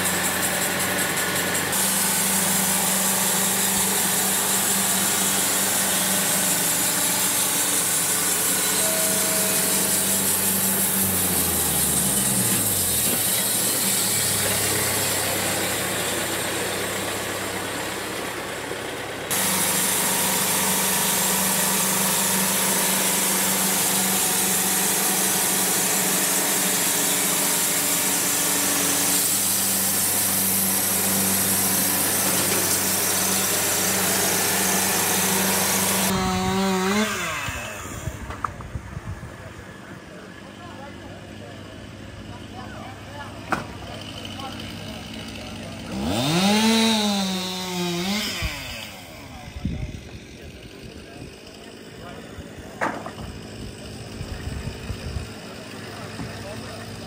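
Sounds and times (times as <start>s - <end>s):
band sawmill sawing log: 0.0s - 57.0s.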